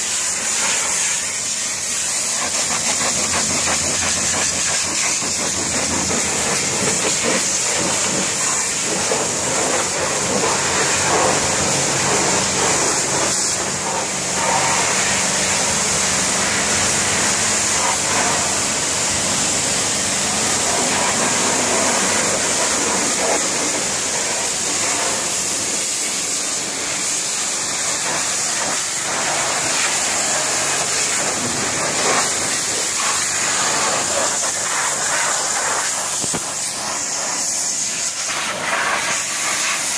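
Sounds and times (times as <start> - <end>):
pressure washer spraying metal: 0.0 - 39.9.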